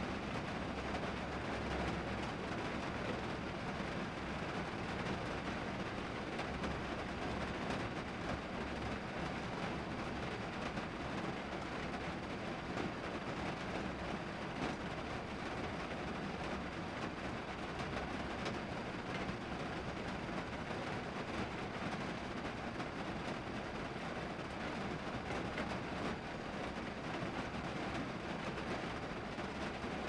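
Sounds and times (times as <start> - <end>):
rain on a car roof: 0.0 - 30.0.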